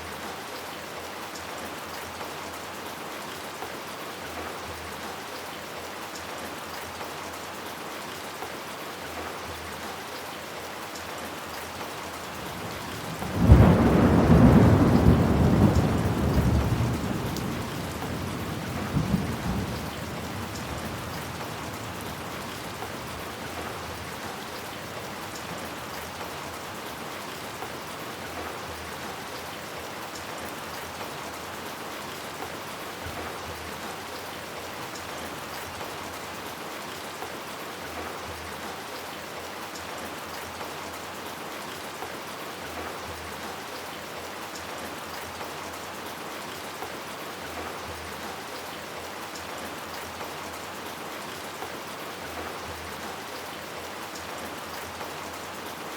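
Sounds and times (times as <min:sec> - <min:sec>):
steady rainfall: 0:00.0 - 0:55.9.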